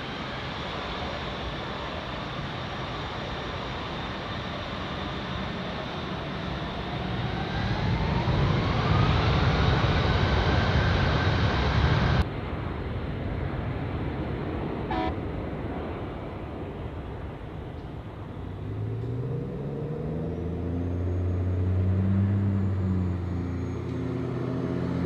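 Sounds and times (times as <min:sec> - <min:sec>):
jet engine roar: 0:00.0 - 0:25.0
jet engine whine: 0:00.0 - 0:25.0.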